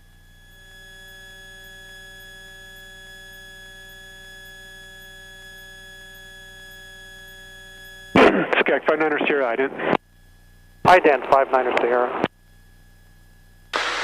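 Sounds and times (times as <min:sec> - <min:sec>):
electronic whine in headset: 0:00.0 - 0:14.0.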